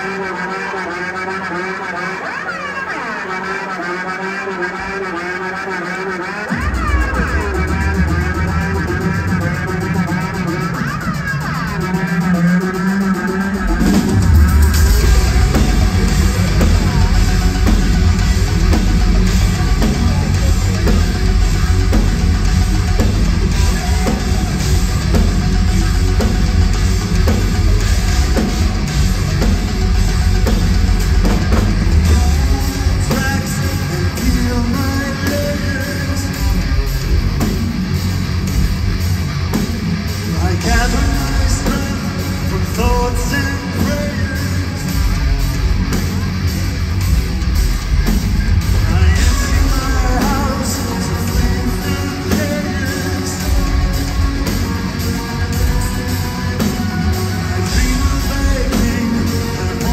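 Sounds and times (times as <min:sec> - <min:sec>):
sung vocal line: 0:00.0 - 0:37.8, 0:40.2 - 0:46.7, 0:48.5 - 0:59.9
metal band playing live: 0:00.0 - 0:59.9.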